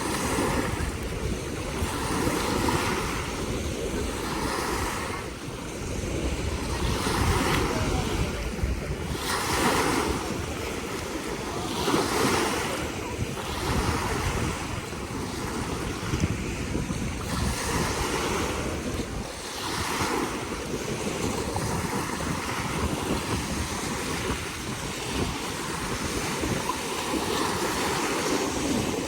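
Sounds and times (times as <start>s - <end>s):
lake waves washing in: 0.0s - 29.0s
wind rumbling on microphone: 0.0s - 29.0s.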